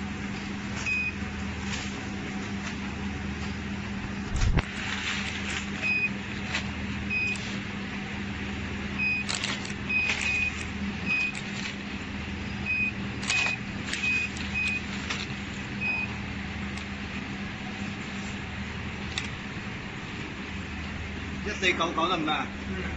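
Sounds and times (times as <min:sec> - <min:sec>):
machine hum: 0:00.0 - 0:22.9.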